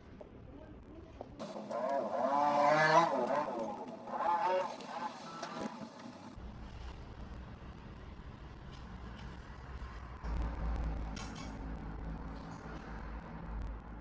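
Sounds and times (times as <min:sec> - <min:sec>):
vehicle motor rumbling: 0:01.2 - 0:14.0.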